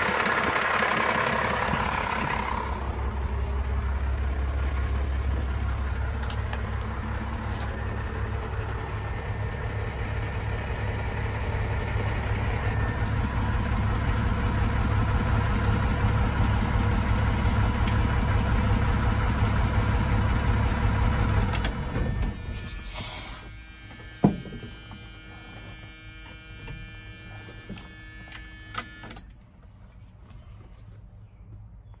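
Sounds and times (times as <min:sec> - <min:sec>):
diesel engine idling: 0:00.0 - 0:29.2.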